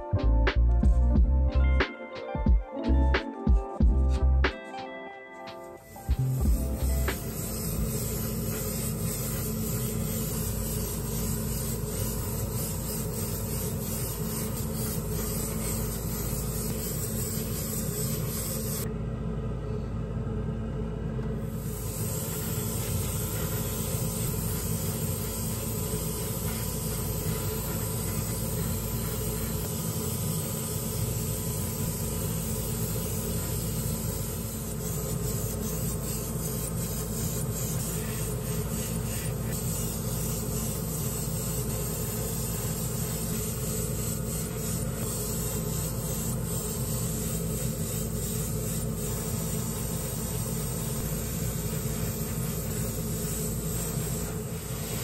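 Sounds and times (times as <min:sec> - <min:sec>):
steady hum: 0:05.4 - 0:55.0
airbrush hissing: 0:05.9 - 0:18.9, 0:21.4 - 0:55.0.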